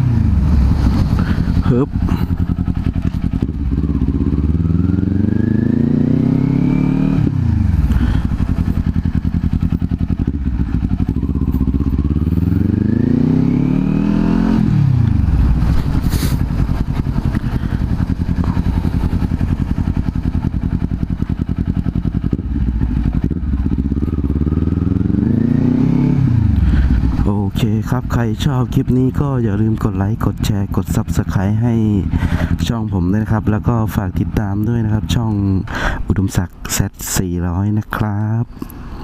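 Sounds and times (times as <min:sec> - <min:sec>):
motorcycle engine accelerating: 0:00.0 - 0:35.9.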